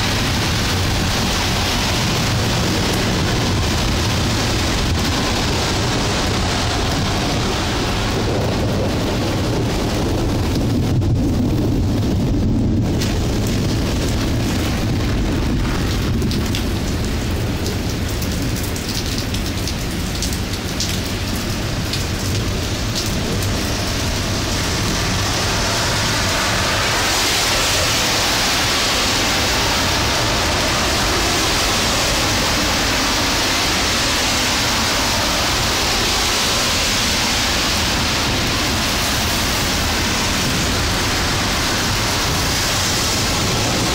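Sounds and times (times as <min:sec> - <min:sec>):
low thunder rumble: 0:00.0 - 0:43.9
rain falling: 0:00.0 - 0:43.9.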